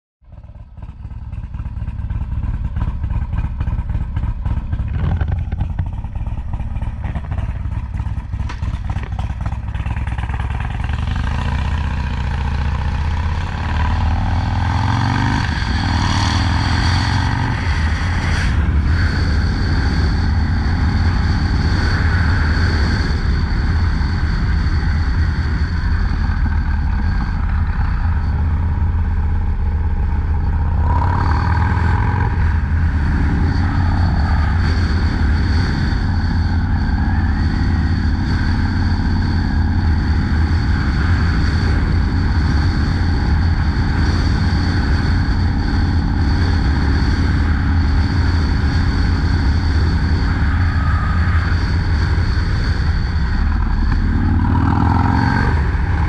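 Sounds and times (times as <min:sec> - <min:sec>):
motorcycle engine running: 0:00.2 - 0:56.0.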